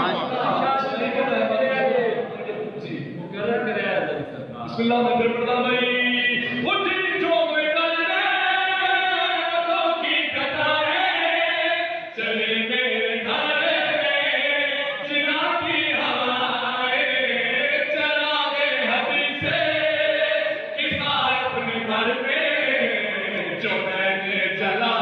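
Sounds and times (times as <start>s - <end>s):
man chanting into microphone: 4.6s - 25.0s.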